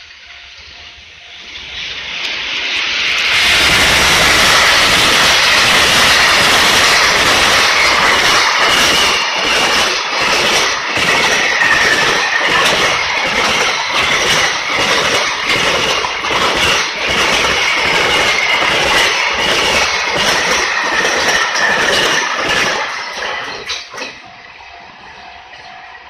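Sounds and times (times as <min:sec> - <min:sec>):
freight train passing: 0:00.0 - 0:26.0
wheels clacking over rail joints: 0:02.0 - 0:24.5.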